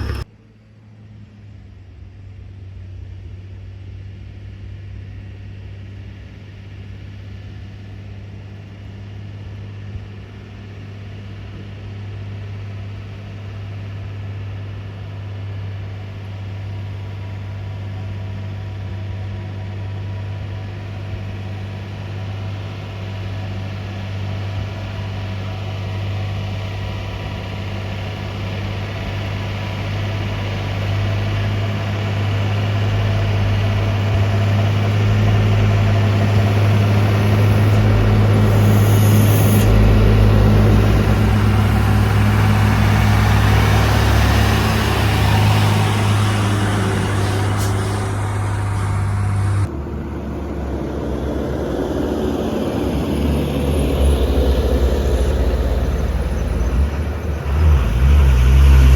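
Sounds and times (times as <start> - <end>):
truck diesel engine under load: 0.0 - 0.4, 9.5 - 58.9.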